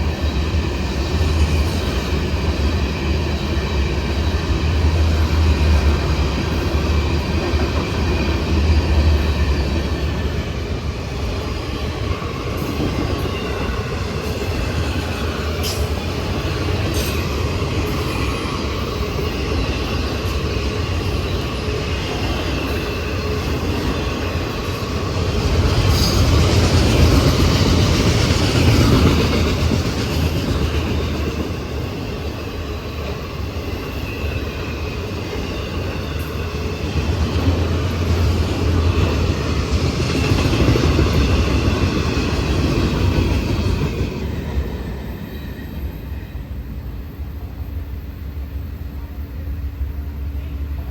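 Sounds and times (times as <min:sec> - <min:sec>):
train wheels on rails: 0:00.0 - 0:50.9.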